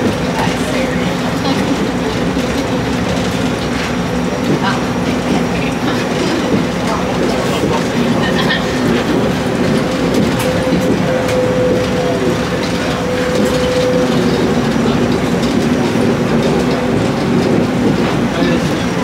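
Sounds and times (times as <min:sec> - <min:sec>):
people mover rumbling: 0:00.0 - 0:19.0.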